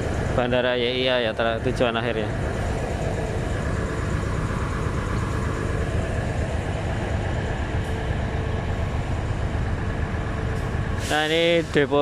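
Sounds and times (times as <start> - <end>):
train engine idling: 0.0 - 12.0.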